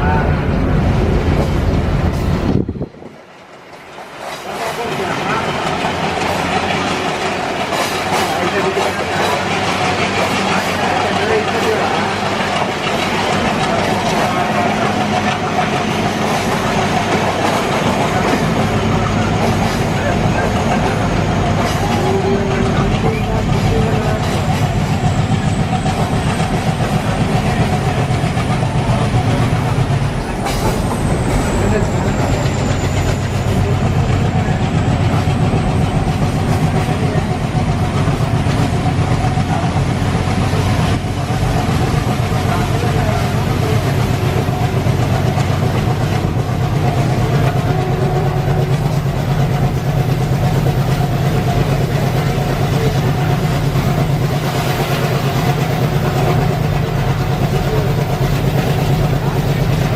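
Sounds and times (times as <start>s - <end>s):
diesel locomotive engine running: 0.0s - 59.9s
train wheels on rails: 0.0s - 59.9s.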